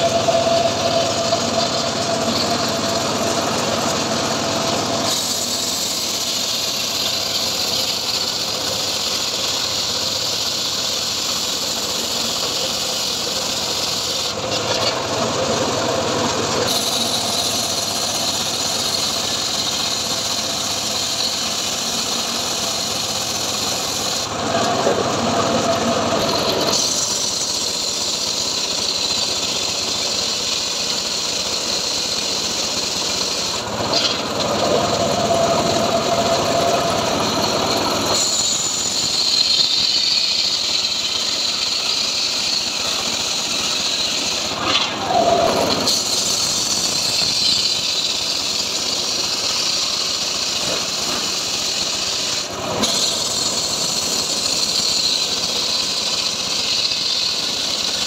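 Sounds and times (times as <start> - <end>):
circular saw cutting wood: 0.0 - 58.0.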